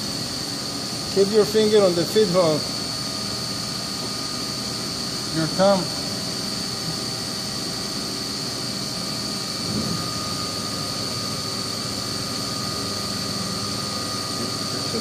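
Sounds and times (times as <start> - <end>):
milling machine high whine: 0.0 - 15.0.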